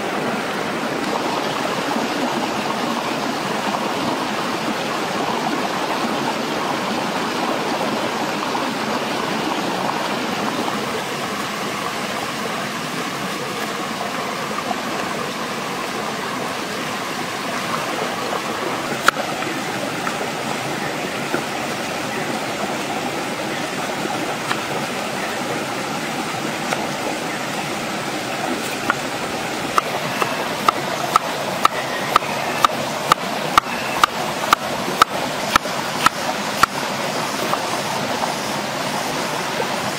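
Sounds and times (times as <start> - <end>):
rocky stream flowing: 0.0 - 39.9.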